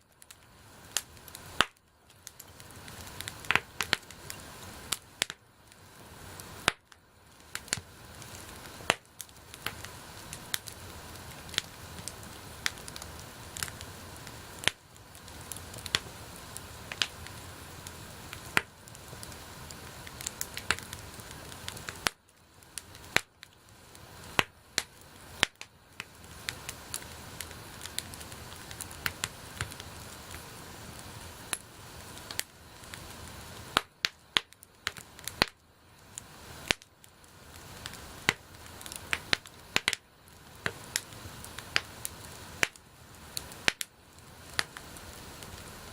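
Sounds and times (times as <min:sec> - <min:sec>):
campfire crackling and popping: 0:00.0 - 0:45.9
fire hissing: 0:00.0 - 0:45.9.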